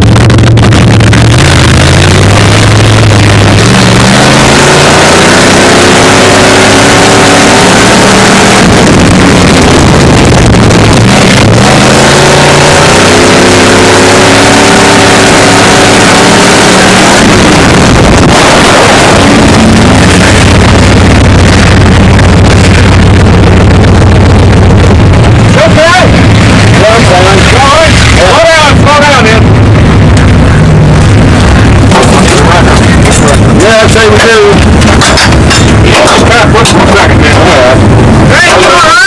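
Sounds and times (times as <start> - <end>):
stock car engine revving: 0.0 - 39.0.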